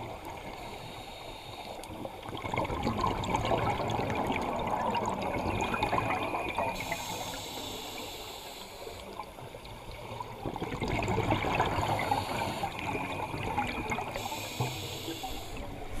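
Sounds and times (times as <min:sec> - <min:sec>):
underwater bubbles gurgling: 0:00.0 - 0:16.0.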